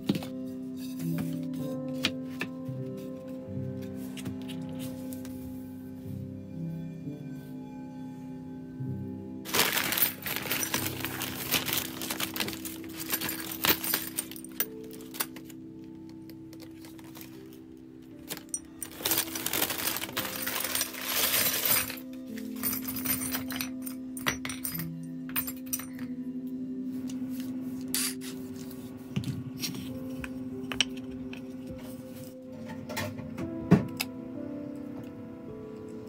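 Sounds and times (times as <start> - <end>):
background music: 0.0 - 36.0.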